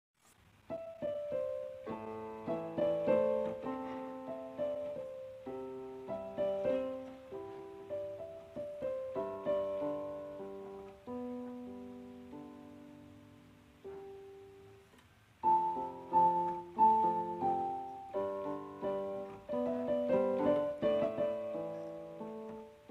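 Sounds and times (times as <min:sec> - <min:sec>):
piano music: 0:00.7 - 0:22.9.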